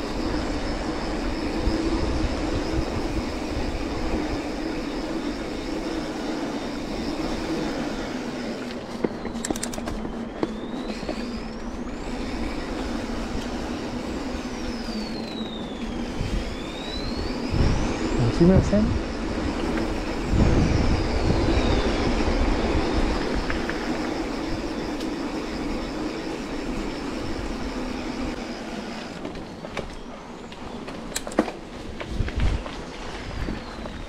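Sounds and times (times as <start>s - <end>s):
wind buffeting microphone: 0.0s - 8.5s, 9.1s - 28.5s, 31.6s - 34.0s
bike tyres rolling hum: 0.0s - 34.0s.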